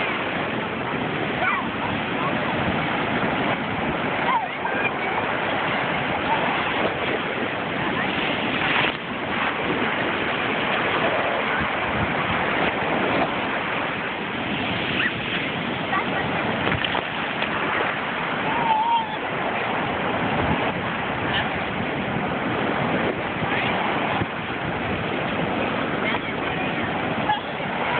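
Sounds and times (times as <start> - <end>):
ocean surf breaking on sand: 0.0 - 27.9.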